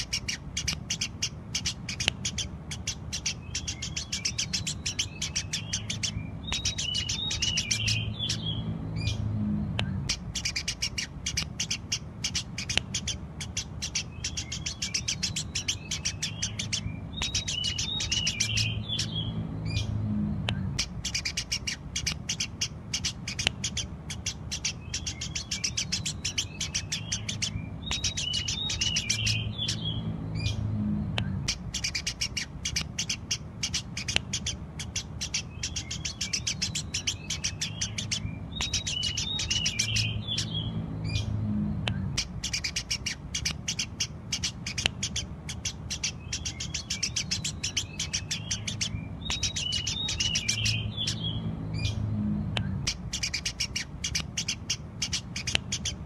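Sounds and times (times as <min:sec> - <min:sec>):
low hum: 0:00.0 - 0:44.3, 0:46.9 - 0:54.4
sparrows chirping: 0:00.0 - 0:56.0.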